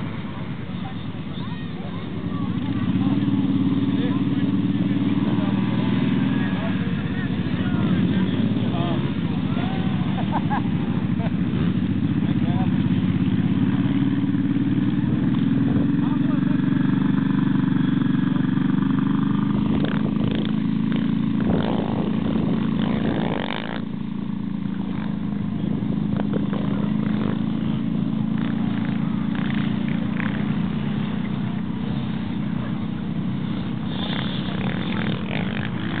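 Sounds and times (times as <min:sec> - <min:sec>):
quad bike engine running: 0:00.0 - 0:36.0
voices: 0:00.0 - 0:36.0.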